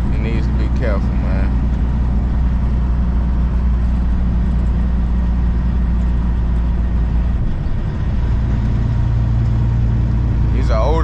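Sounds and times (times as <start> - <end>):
truck diesel engine and road noise: 0.0 - 11.0.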